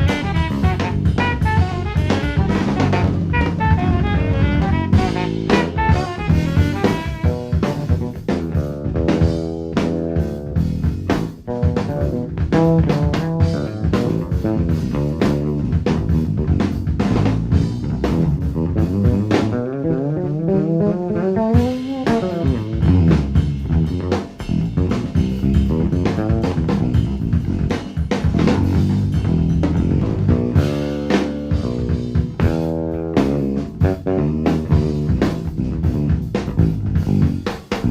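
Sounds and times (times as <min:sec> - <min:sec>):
bass guitar groove: 0:00.0 - 0:37.9
drum kit playing: 0:00.0 - 0:37.9.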